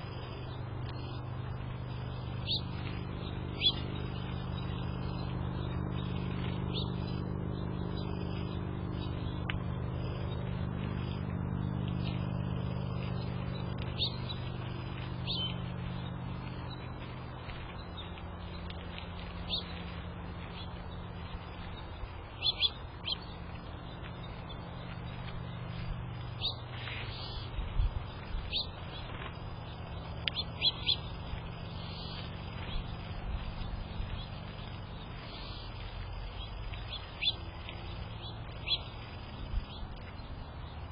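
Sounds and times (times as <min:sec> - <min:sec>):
low engine drone: 0:00.0 - 0:40.9
small birds chirping: 0:00.0 - 0:40.9.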